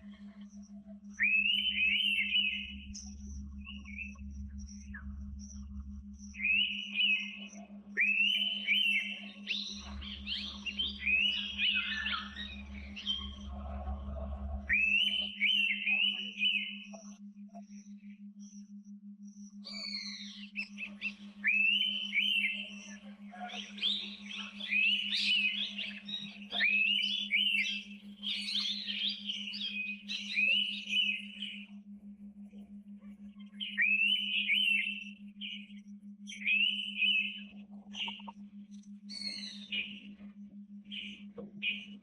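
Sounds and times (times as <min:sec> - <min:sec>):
birds singing: 0:00.0 - 0:18.7, 0:19.4 - 0:42.0
steady low hum: 0:00.0 - 0:42.0.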